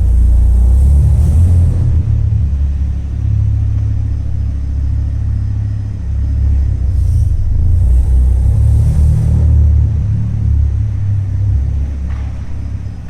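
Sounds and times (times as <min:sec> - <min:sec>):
car low rumble: 0:00.0 - 0:13.0.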